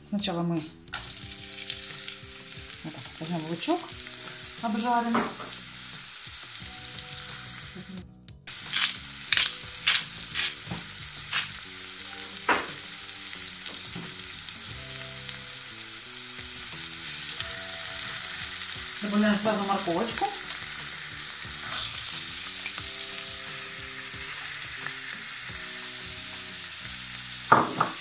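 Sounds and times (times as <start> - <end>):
onion sizzling in hot oil: 0.9 - 28.0
sharp crackles of frying: 0.9 - 28.0.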